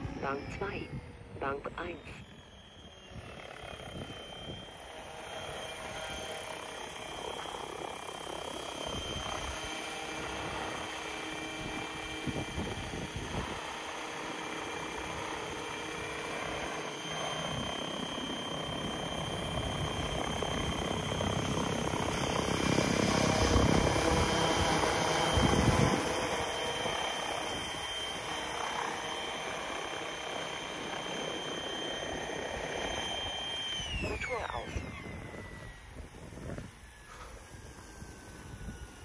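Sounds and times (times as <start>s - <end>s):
rc helicopter motor whine: 0.0s - 39.0s.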